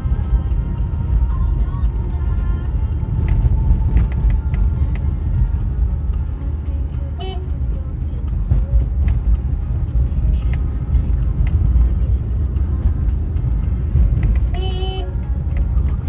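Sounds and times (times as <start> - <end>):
car rumbling on rough road: 0.0 - 16.0.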